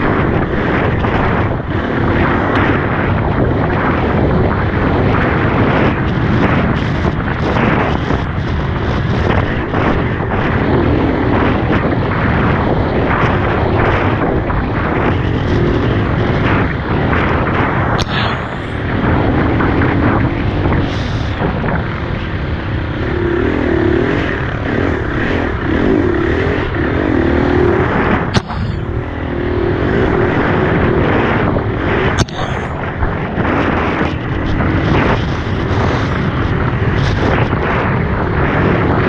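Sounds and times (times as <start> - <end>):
dirt bike engine: 0.0 - 39.0
wind rushing: 0.0 - 39.0.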